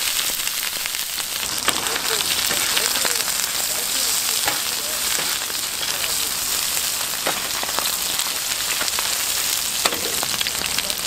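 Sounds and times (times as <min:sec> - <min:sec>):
meat sizzling on a grill: 0:00.0 - 0:11.0.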